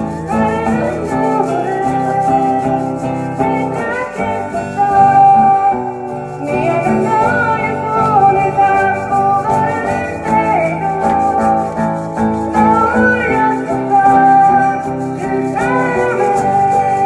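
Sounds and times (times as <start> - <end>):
guitar accompaniment: 0.0 - 17.0
lead melody with bending notes: 0.0 - 17.0.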